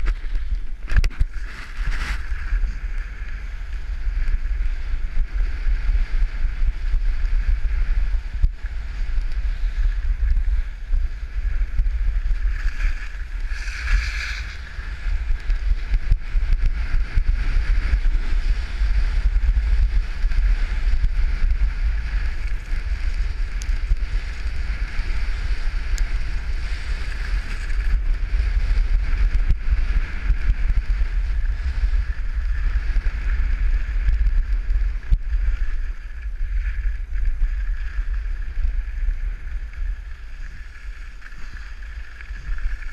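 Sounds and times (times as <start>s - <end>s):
ski scrape: 0.0s - 34.0s, 34.8s - 42.9s
skis sliding on snow: 0.0s - 42.9s
wind buffeting microphone: 0.0s - 42.9s.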